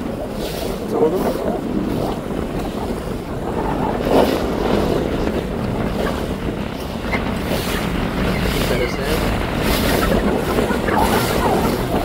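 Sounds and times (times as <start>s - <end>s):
waves washing: 0.0s - 12.0s
wind buffeting microphone: 0.0s - 12.0s.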